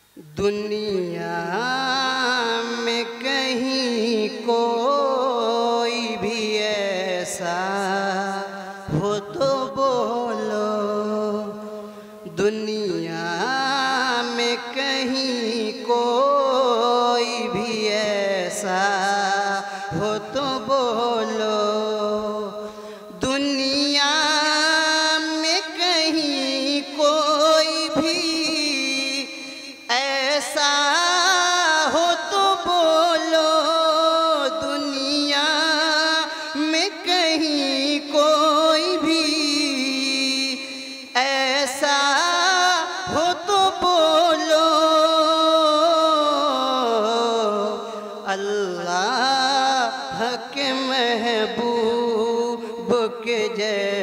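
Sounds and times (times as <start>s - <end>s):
man singing solo: 0.0s - 54.0s.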